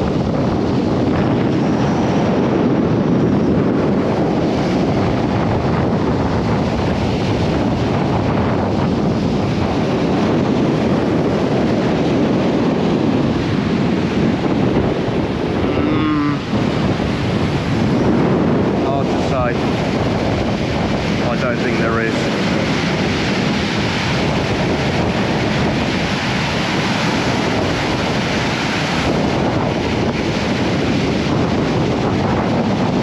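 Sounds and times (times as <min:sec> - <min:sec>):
surf on beach: 0:00.0 - 0:33.0
wind buffeting microphone: 0:00.0 - 0:33.0.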